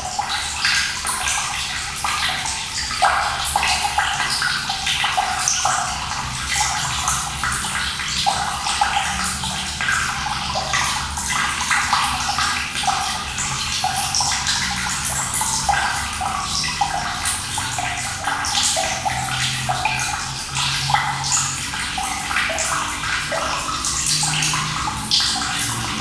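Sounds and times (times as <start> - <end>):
running water splashing: 0.0 - 26.0.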